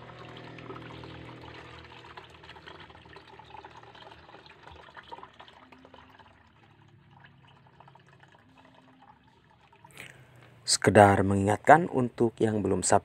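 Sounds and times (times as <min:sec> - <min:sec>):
liquid trickling into strainer: 0:00.0 - 0:10.5.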